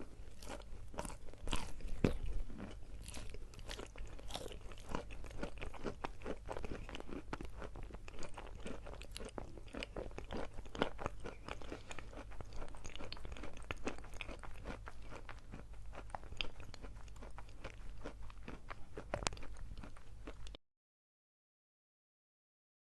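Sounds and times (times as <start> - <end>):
chalk crunching while chewed: 0.0 - 20.6.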